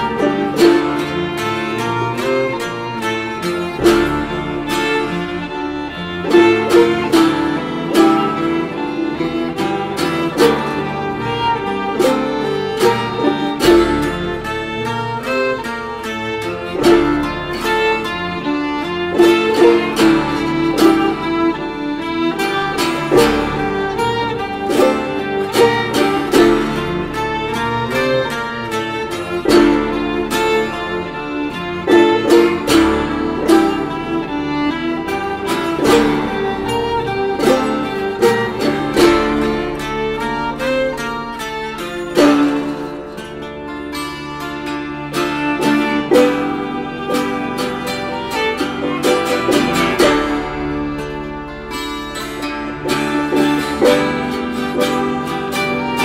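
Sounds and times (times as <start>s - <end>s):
held sustained tones: 0.0s - 56.0s
plucked string instrument: 0.0s - 56.0s.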